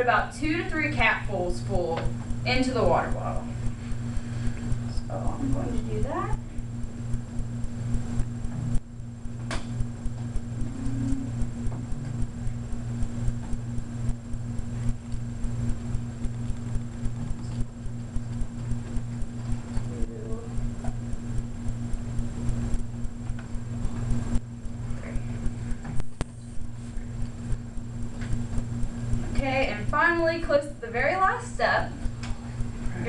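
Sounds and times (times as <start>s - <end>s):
low pulsing hum: 0.0s - 33.0s.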